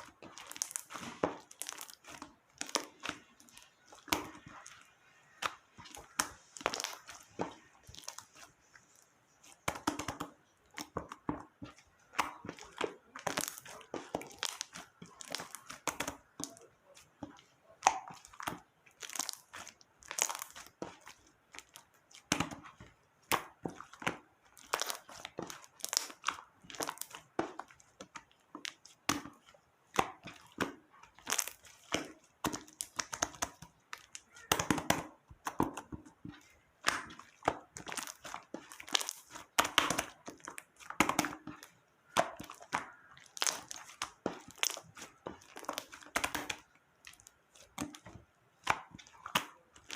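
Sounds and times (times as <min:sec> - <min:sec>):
slime clicking and popping: 0:00.0 - 0:08.4, 0:09.4 - 0:49.9.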